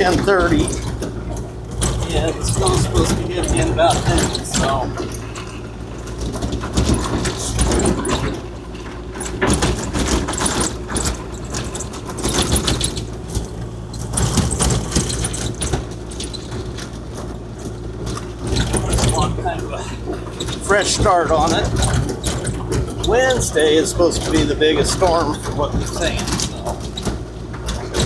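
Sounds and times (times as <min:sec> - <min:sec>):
clattering and rattling: 0:00.0 - 0:28.0
excavator diesel engine running: 0:00.0 - 0:28.0.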